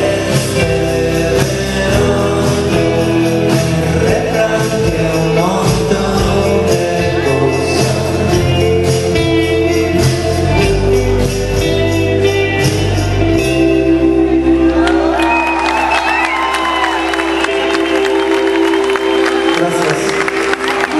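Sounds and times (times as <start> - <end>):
held guitar chords: 0.0 - 20.9
live rock band playing: 0.0 - 20.9.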